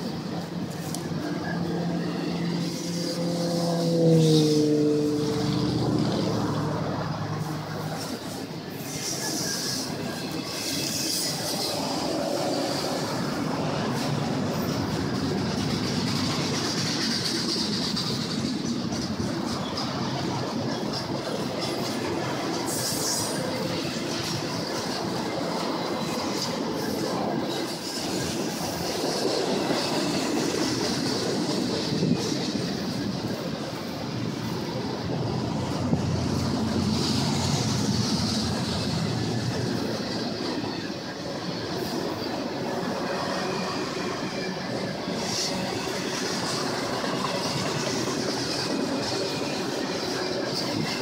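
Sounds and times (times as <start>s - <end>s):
diesel locomotive passing: 0.0s - 51.0s
high wheel squeal: 0.0s - 51.0s
train wheels rumbling on rail: 0.0s - 51.0s.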